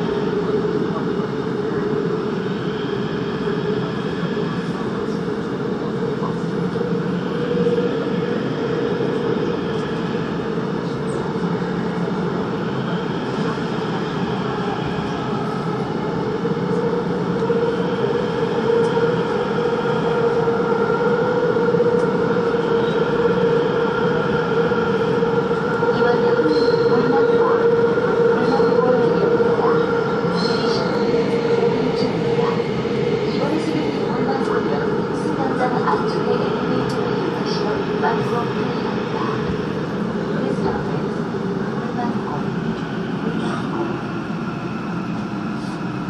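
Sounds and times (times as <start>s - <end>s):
constant hum: 0.0s - 46.0s
subway train wheels rumbling on rail: 0.0s - 46.0s.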